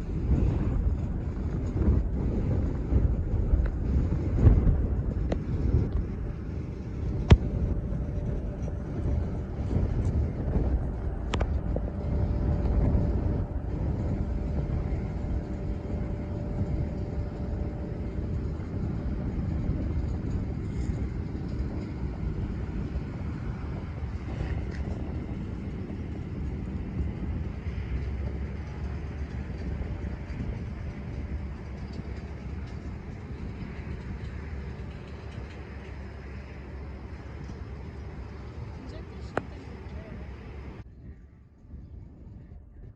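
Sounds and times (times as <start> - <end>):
faint whine: 0.0 - 42.9
jet engines rumbling: 0.0 - 42.9.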